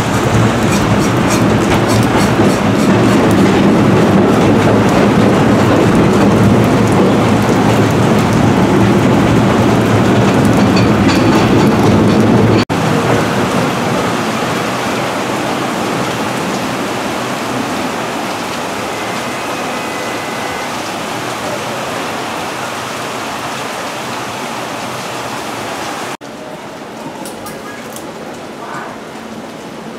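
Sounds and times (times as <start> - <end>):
heavy rain on canopy and tracks: 0.0 - 29.9
subway train passing on rails: 0.0 - 29.9.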